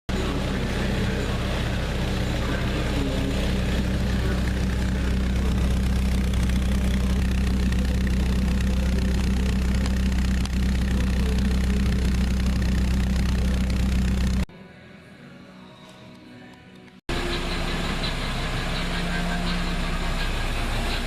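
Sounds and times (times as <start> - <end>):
car engine idling: 0.1 - 14.5, 17.1 - 21.0.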